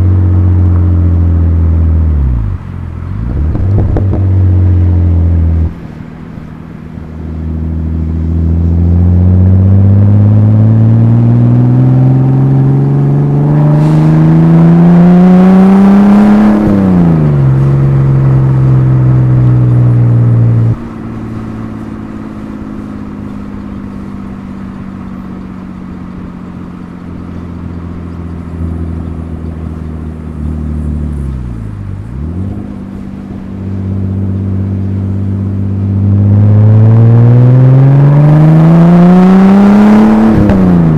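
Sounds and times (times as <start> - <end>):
car exhaust accelerating: 0.0 - 40.9.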